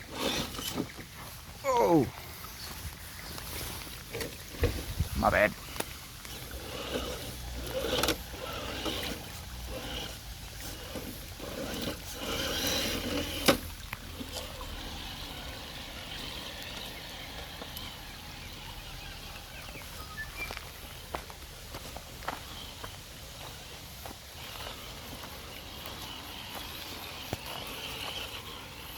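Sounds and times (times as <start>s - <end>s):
toy truck knocking and scraping: 0.0s - 1.4s, 3.2s - 21.3s, 24.4s - 28.9s.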